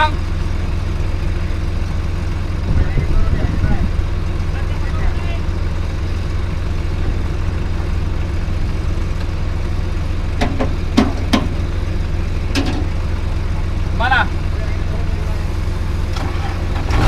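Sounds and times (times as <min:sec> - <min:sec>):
diesel engine running inside cab: 0:00.0 - 0:17.0.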